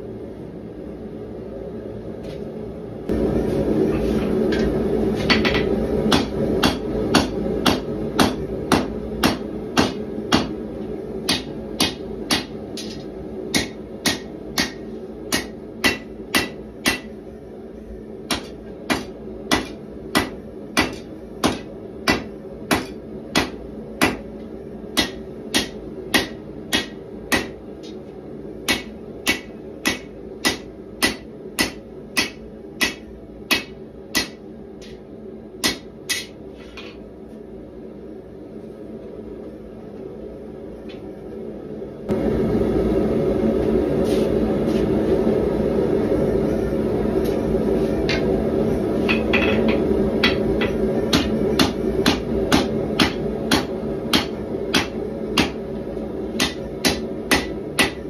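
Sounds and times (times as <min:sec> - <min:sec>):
low hum: 0:00.0 - 0:57.8.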